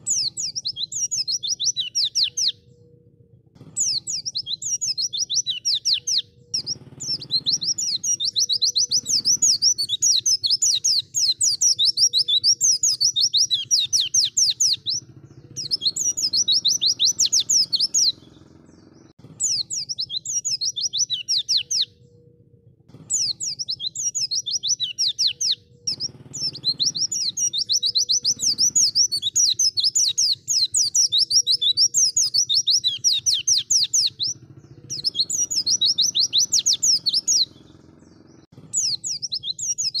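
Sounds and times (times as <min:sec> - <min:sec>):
bird chattering song: 0:00.0 - 0:40.0.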